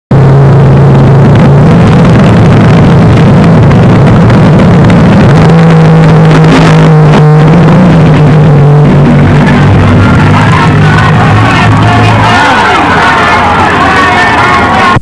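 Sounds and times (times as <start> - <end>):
drag racing car engines: 0.1 - 15.0.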